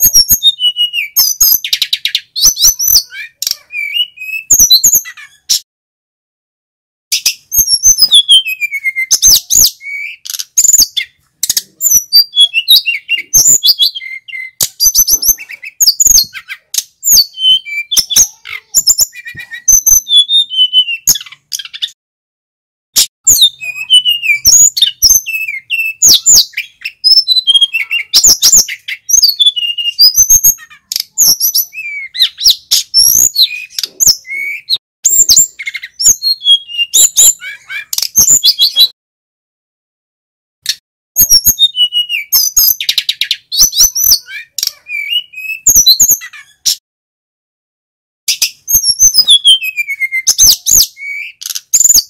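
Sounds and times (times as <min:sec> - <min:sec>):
bird singing: 0:00.0 - 0:05.6, 0:07.1 - 0:22.0, 0:23.2 - 0:39.0, 0:41.2 - 0:46.8, 0:48.3 - 0:52.0.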